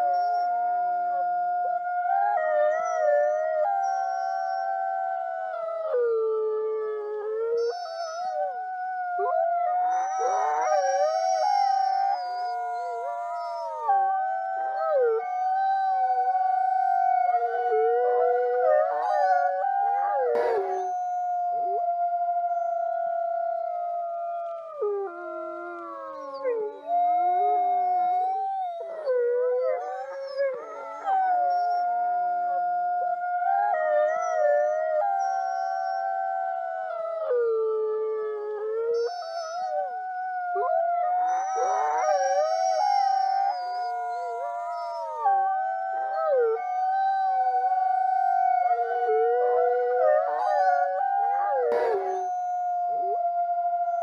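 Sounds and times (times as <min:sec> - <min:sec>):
wolves howling in chorus: 0:00.0 - 0:54.0.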